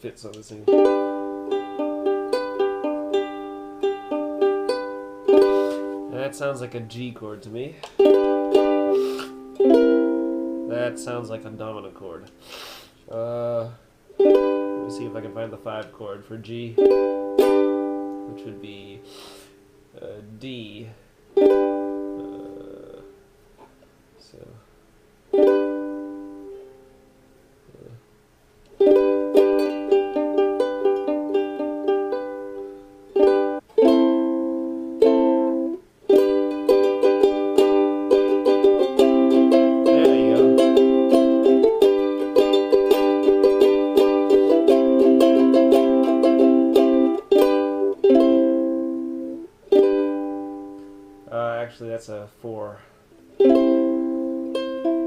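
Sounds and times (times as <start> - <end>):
ukulele strumming chords: 0.2 - 23.8, 25.3 - 27.2, 28.7 - 55.0.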